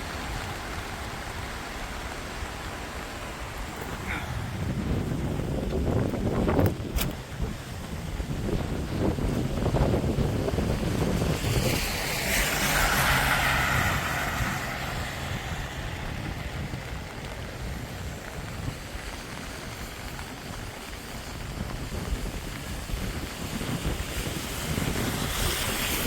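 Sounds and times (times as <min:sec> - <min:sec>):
tyre hiss on wet road: 0:00.0 - 0:26.0
wind rumble on microphone: 0:00.0 - 0:26.0.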